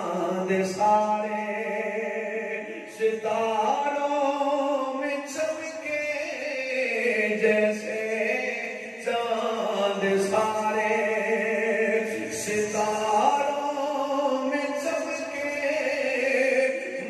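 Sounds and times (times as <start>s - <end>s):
man chanting religious verse: 0.0s - 17.0s.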